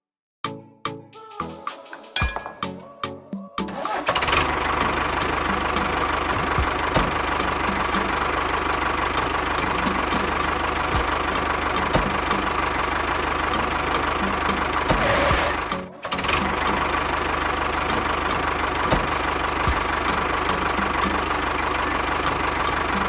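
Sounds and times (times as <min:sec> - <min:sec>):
tractor engine idling: 0:01.5 - 0:23.0.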